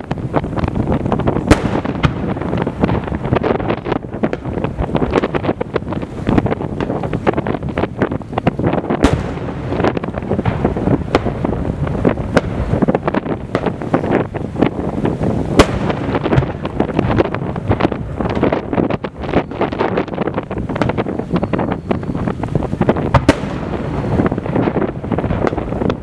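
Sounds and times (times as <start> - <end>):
sharp firework bang: 0.0 - 19.7, 20.6 - 26.0
fireworks shells bursting: 0.0 - 26.0.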